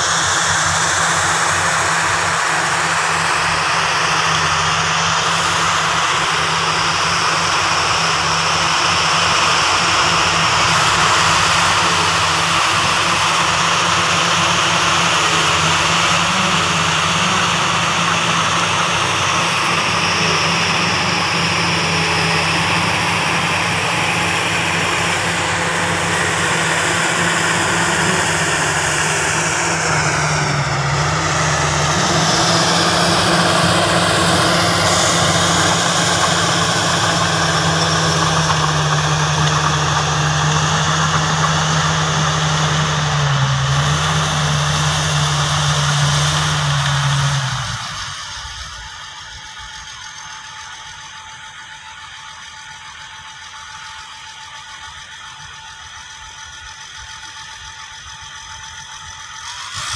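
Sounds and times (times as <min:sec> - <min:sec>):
heavy diesel machinery droning: 0:00.0 - 0:59.9.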